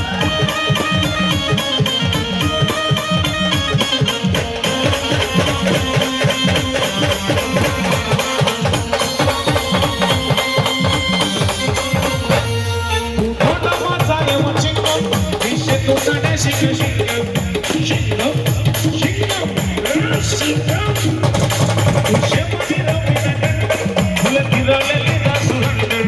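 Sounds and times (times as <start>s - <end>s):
fast dense drumming: 0.0s - 12.6s, 13.3s - 26.0s.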